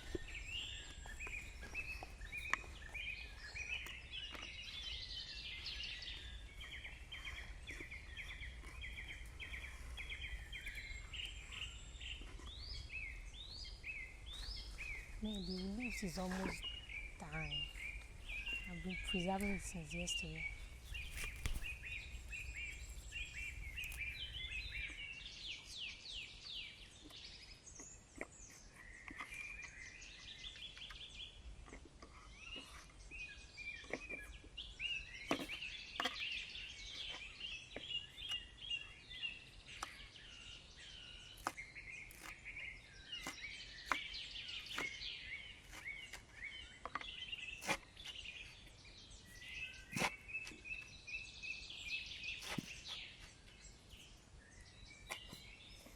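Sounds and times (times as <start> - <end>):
birds singing and chirping: 0.0 - 55.9.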